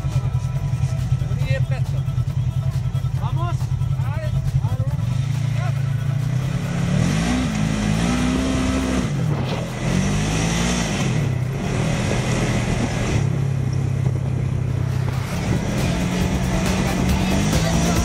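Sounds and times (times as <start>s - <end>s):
off-road vehicle engine revving: 0.0s - 18.0s
rushing wind and tyres: 0.0s - 18.0s.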